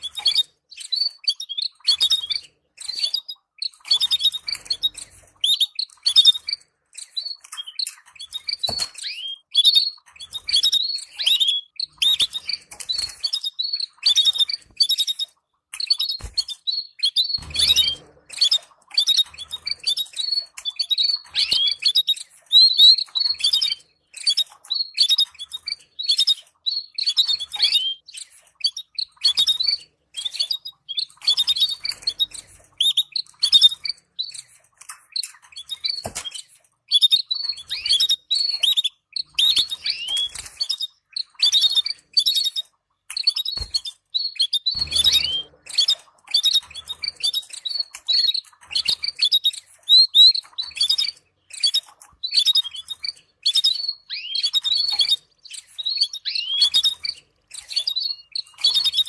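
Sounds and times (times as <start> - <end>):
canaries chirping and twittering: 0.0 - 59.0.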